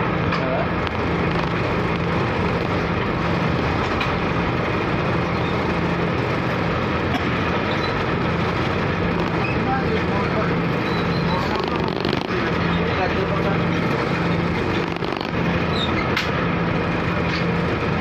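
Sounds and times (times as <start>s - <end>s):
dense rushing noise: 0.0s - 18.0s
ferry engine droning: 0.0s - 18.0s.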